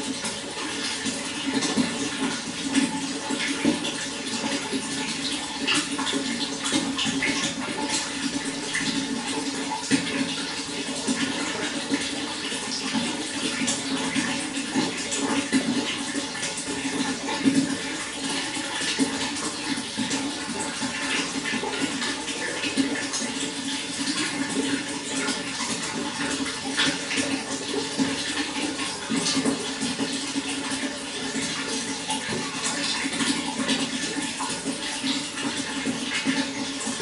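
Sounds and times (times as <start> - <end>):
running water splashing and gurgling: 0.0 - 37.0.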